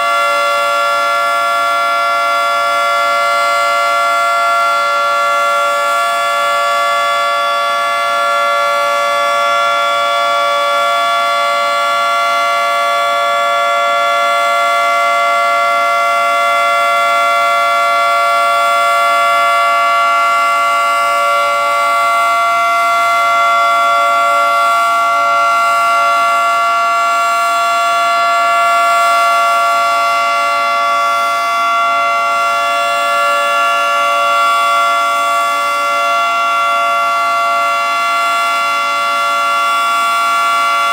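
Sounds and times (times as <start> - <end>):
two-tone warning siren: 0.0 - 40.9.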